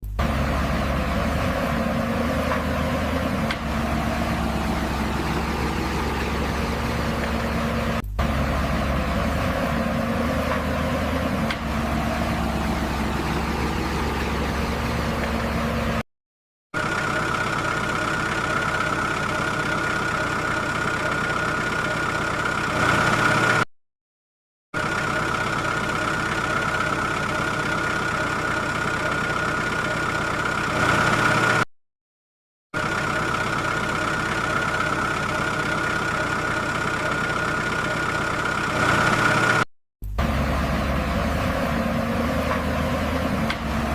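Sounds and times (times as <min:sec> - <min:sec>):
engine-like mechanical whine: 0:00.0 - 0:16.0, 0:16.8 - 0:23.7, 0:24.8 - 0:31.7, 0:32.8 - 0:43.9.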